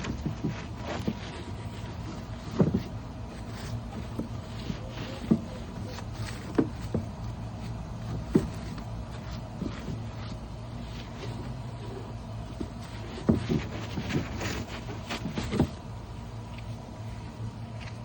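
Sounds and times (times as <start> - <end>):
brush scrubbing plastic bin: 0.0 - 16.3
brush knocking plastic: 0.0 - 16.7.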